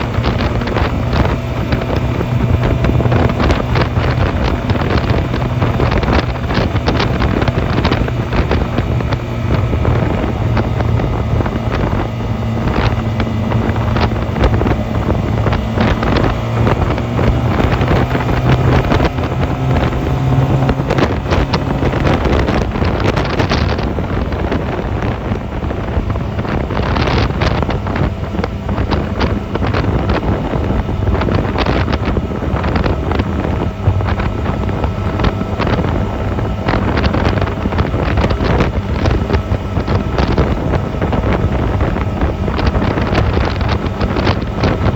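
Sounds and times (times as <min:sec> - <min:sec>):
motorcycle engine running: 0:00.0 - 0:44.9
wind buffeting microphone: 0:00.0 - 0:44.9.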